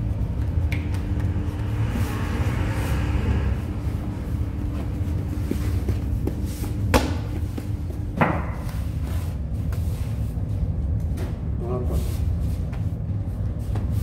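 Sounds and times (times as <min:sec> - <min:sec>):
oven low rumble: 0:00.0 - 0:14.0.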